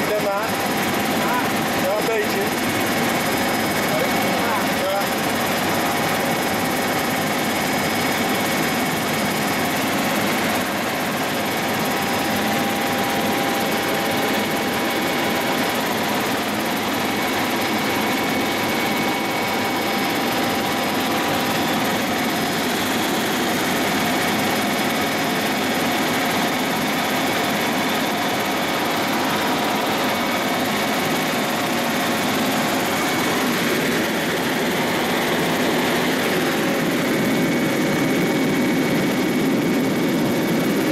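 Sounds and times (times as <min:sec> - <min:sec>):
helicopter engine and rotor rush: 0:00.0 - 0:40.9
helicopter whine: 0:00.0 - 0:40.9.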